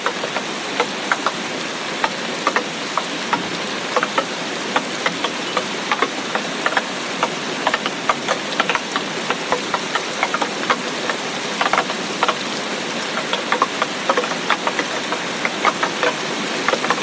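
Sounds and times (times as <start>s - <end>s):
heavy rain hissing: 0.0s - 17.0s
raindrops striking close by: 0.0s - 17.0s.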